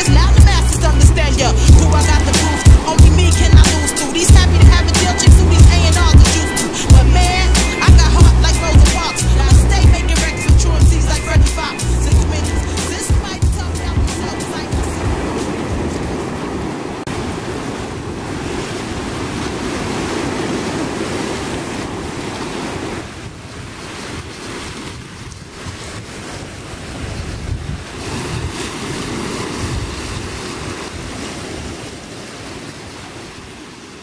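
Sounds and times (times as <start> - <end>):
wind buffeting microphone: 0.0 - 33.7
sea waves washing over rocks: 0.0 - 34.0.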